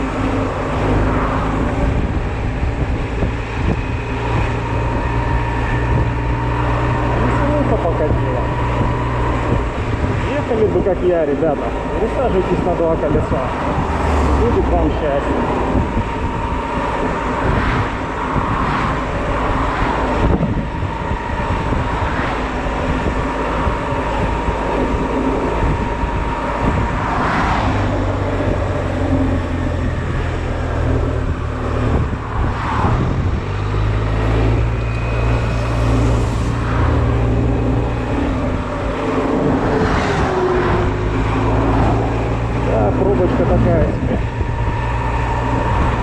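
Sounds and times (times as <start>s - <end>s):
scooter engine humming: 0.0s - 7.8s, 8.4s - 46.0s
road and wind noise: 0.0s - 46.0s.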